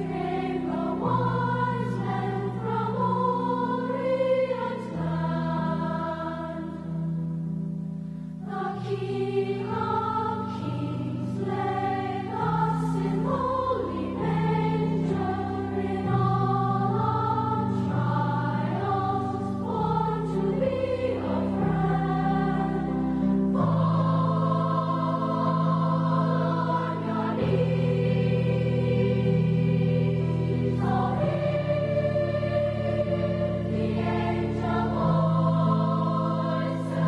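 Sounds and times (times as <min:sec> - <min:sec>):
choir singing: 0:00.0 - 0:07.2, 0:08.4 - 0:37.0.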